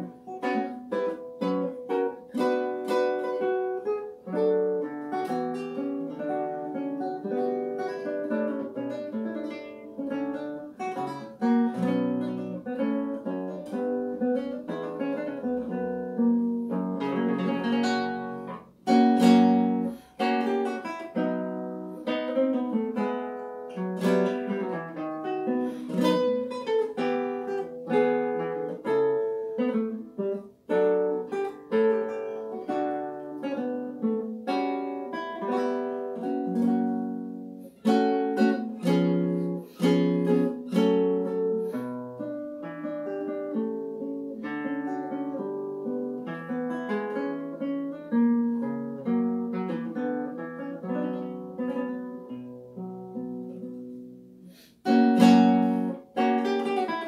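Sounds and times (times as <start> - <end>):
classical guitar fingerstyle: 0.0 - 57.0.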